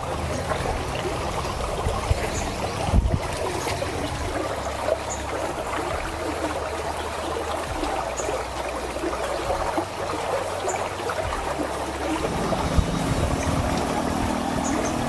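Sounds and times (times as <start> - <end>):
water rushing through channel: 0.0 - 15.0.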